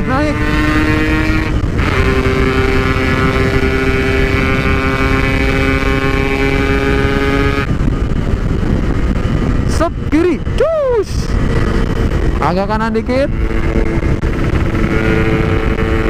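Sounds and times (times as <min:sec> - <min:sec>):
two-stroke motorcycle engine: 0:00.0 - 0:10.1, 0:11.1 - 0:16.0.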